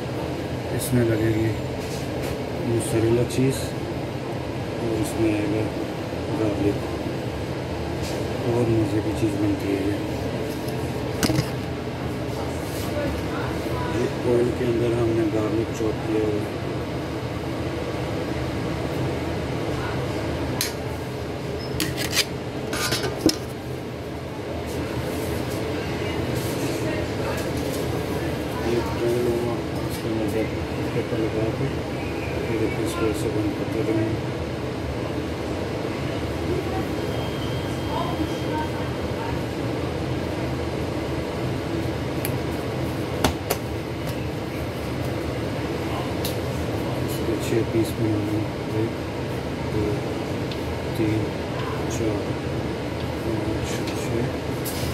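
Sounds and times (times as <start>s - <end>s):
kitchen machinery humming: 0.0s - 54.9s.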